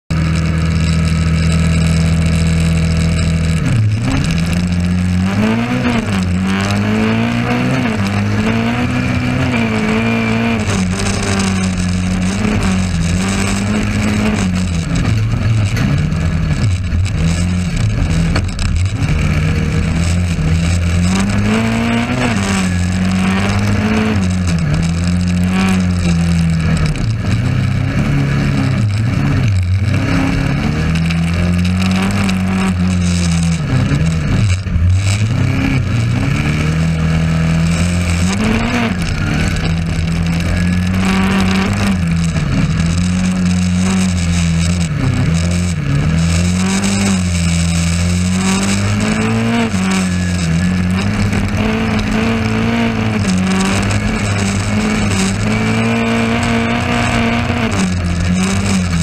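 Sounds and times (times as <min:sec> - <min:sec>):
race car engine revving: 0:00.1 - 0:59.0.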